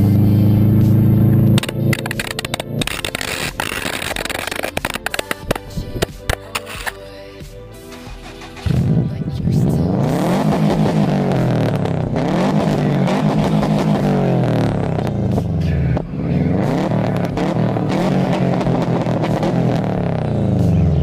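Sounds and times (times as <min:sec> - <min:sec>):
car engine revving: 0:00.0 - 0:07.0, 0:07.8 - 0:21.0.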